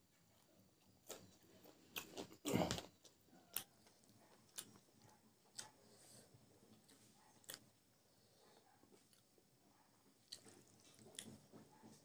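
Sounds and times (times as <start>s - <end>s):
person chewing food: 0.2s - 11.8s.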